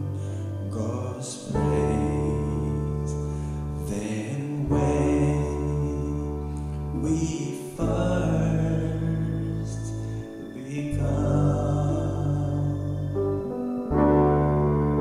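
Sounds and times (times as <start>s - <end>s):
man singing a hymn: 0.0s - 13.4s
grand piano chords: 0.0s - 15.0s.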